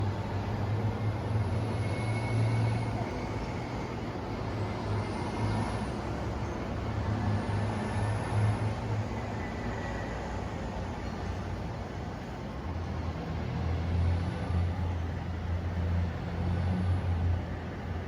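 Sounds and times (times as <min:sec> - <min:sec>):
city ambience low rumble: 0:00.0 - 0:18.0.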